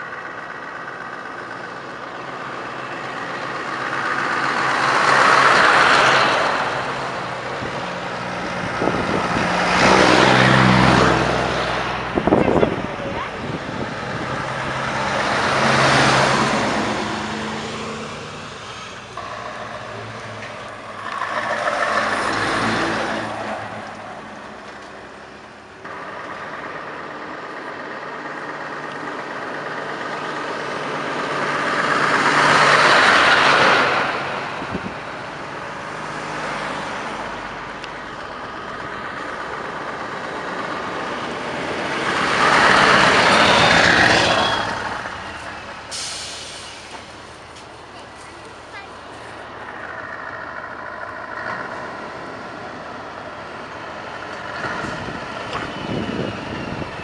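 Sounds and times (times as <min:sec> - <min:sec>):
heavy trucks driving past: 0:00.0 - 0:57.0.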